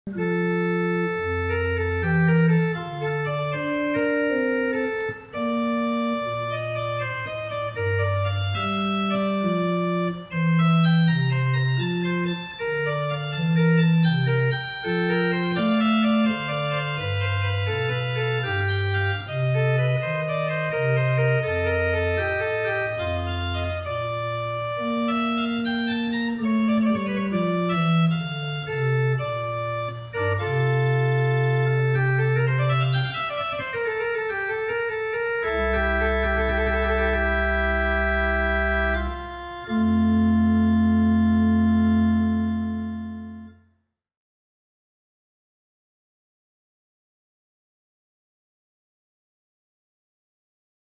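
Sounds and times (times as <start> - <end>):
pipe organ playing: 0.1 - 43.6.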